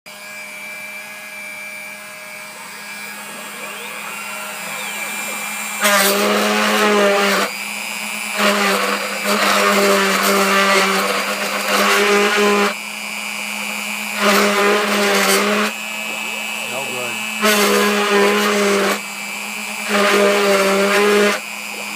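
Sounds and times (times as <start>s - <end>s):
motor hum: 0.1s - 21.9s
cutting bit rasping into metal: 0.2s - 21.9s.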